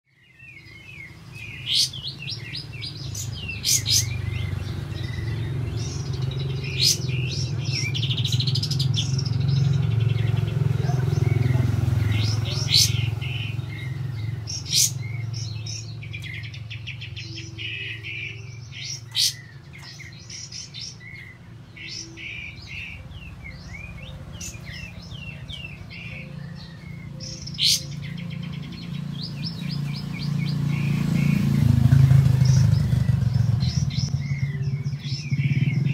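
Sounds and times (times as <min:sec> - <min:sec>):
bird chattering and trilling: 0:00.3 - 0:35.9.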